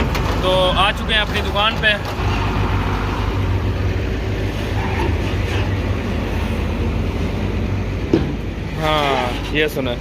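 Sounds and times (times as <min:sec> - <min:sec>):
truck diesel engine rumbling: 0:00.0 - 0:10.0.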